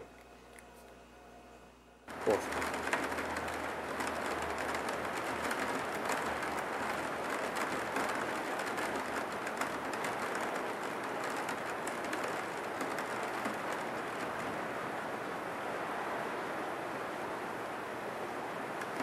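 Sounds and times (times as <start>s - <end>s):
rain falling: 2.1s - 19.0s.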